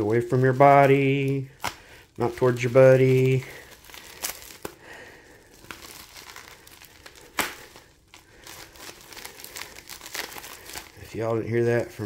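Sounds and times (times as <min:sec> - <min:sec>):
paper crinkling and tearing: 0:00.0 - 0:12.0
small crackles: 0:00.0 - 0:12.0.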